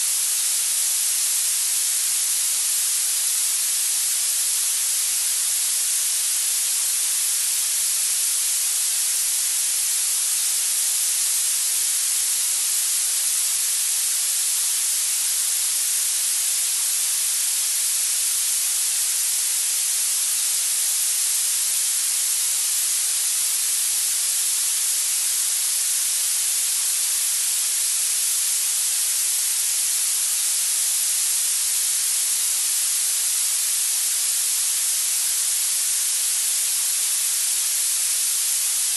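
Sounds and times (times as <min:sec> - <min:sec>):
high-pitched masking hiss: 0:00.0 - 0:38.9.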